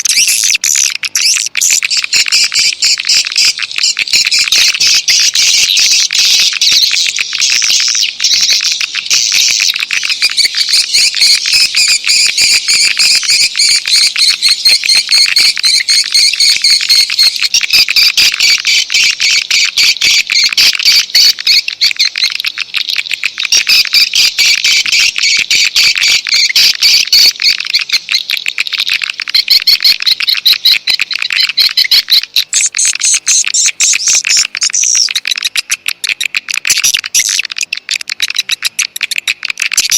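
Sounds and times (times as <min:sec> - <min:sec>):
rapid high chirping and clicking: 0:00.0 - 0:39.9.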